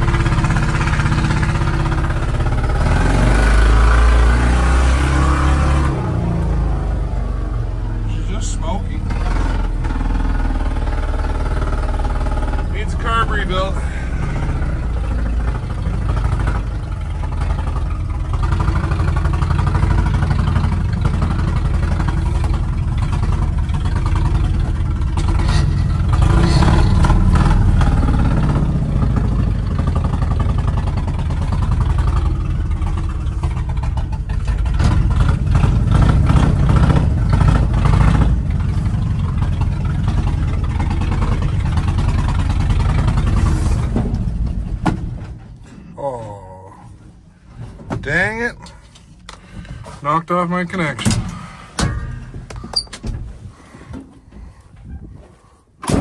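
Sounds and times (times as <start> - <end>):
truck cab rattling: 0.0 - 3.2, 7.8 - 45.9, 46.9 - 56.0
truck engine under load: 0.0 - 56.0.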